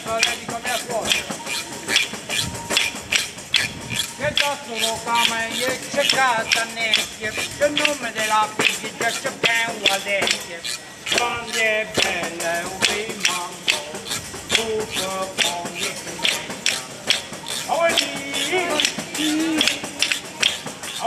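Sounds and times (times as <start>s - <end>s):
man singing: 0.0s - 1.4s, 4.1s - 21.0s
tambourine jingles rattling: 0.0s - 21.0s.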